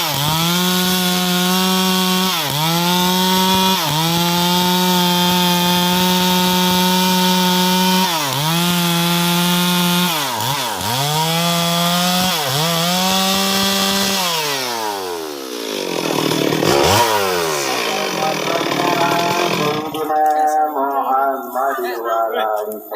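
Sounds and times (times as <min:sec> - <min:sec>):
chainsaw cutting wood: 0:00.0 - 0:20.3.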